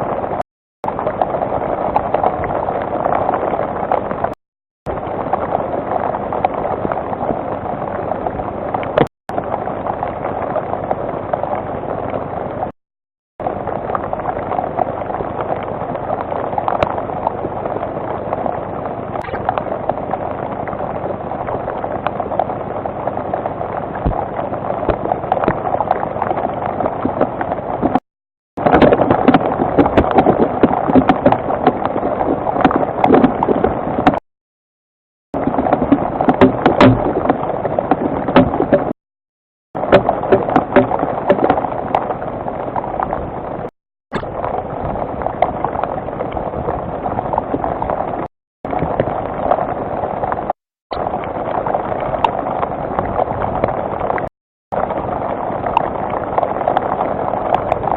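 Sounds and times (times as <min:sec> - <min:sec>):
rain falling steadily: 0:00.0 - 0:12.7, 0:13.4 - 0:28.0, 0:28.6 - 0:34.2, 0:35.4 - 0:39.0, 0:39.8 - 0:57.9.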